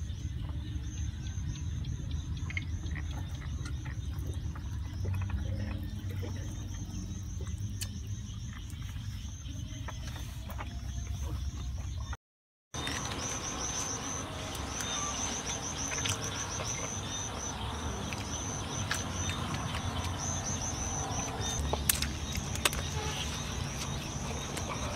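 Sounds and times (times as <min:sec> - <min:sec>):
insects chirping: 0:00.0 - 0:12.2, 0:12.8 - 0:24.9.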